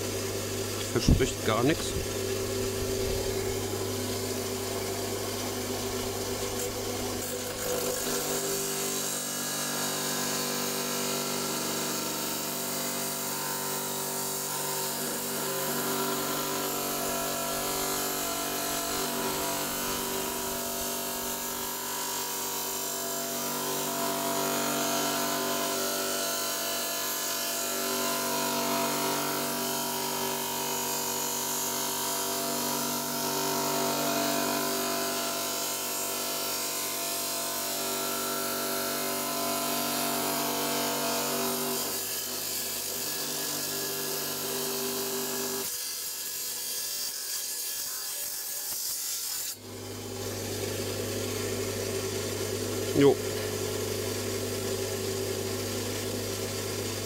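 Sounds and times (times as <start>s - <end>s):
electric stone saw cutting: 0.0s - 57.0s.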